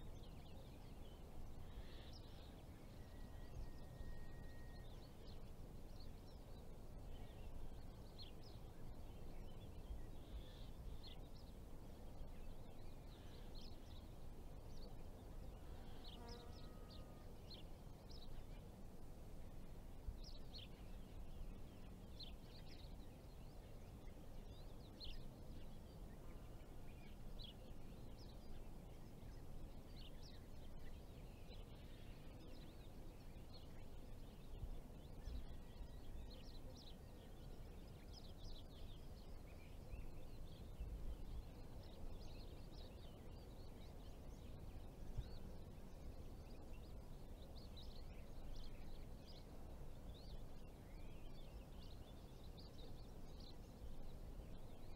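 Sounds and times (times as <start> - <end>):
low steady background rumble: 0.0 - 54.9.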